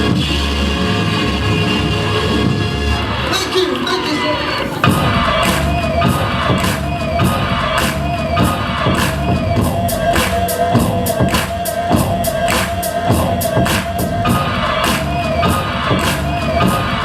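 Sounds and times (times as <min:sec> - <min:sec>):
hip-hop beat over loudspeakers: 0:00.0 - 0:17.0.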